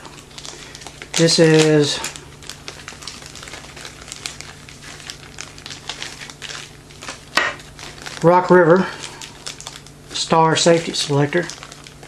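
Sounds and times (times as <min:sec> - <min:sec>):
packaging crinkling and rustling: 0:00.0 - 0:12.0
sharp crackle: 0:00.0 - 0:12.0.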